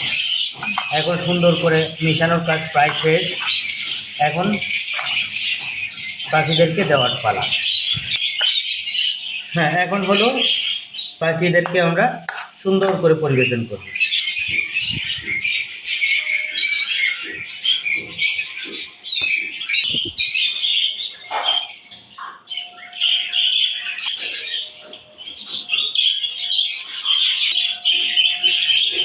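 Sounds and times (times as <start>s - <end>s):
birds chirping and squawking: 0.0s - 29.0s.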